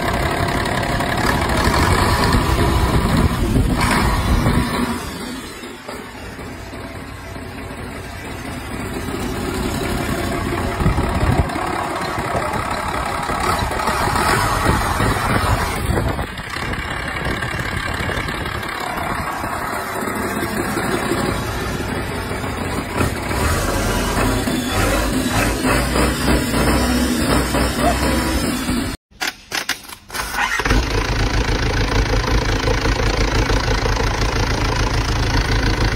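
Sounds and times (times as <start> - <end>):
diesel engine running: 0.0 - 29.0, 30.4 - 35.9.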